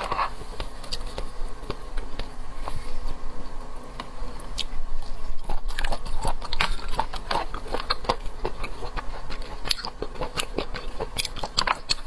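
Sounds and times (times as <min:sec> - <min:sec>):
clicking chewing: 0:00.0 - 0:12.0.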